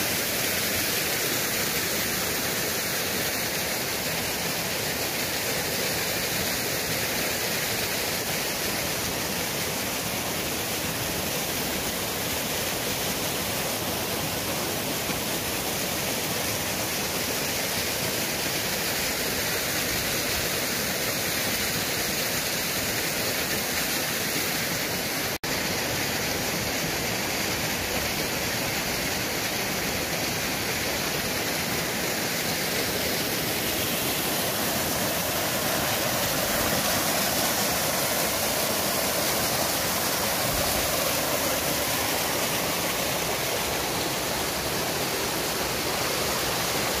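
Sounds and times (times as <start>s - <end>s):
stream rushing over boulders: 0.0s - 47.0s.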